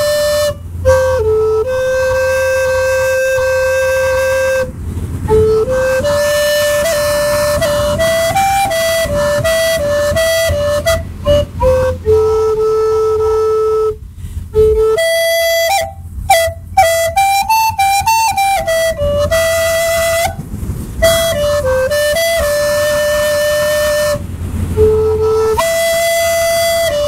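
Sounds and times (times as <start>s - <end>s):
solo flute melody: 0.0s - 27.0s.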